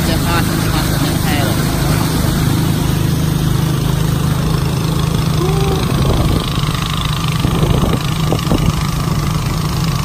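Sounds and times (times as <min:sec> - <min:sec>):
motorboat engine running: 0:00.0 - 0:10.0
water rushing along hull: 0:00.0 - 0:10.0.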